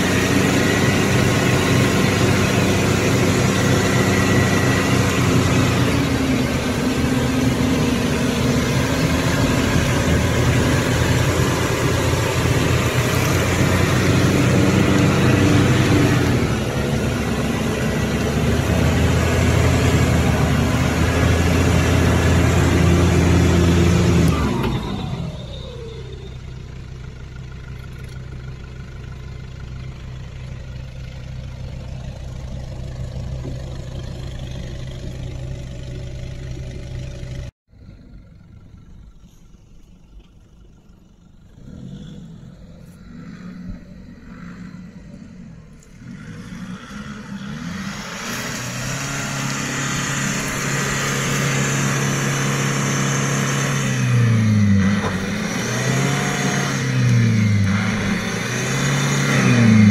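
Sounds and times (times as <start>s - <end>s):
truck engine revving: 0.0s - 26.4s, 31.2s - 59.9s.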